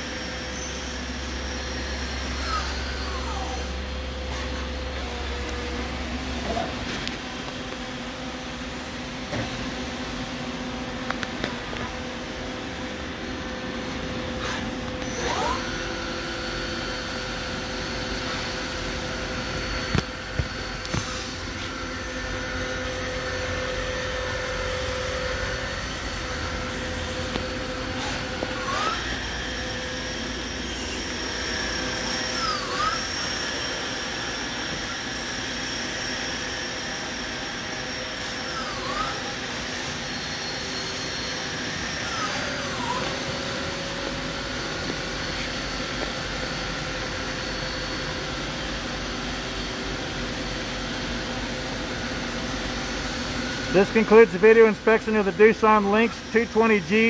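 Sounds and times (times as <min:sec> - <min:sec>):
high motor whine: 0:00.0 - 0:57.0
steady machine hum: 0:00.0 - 0:57.0.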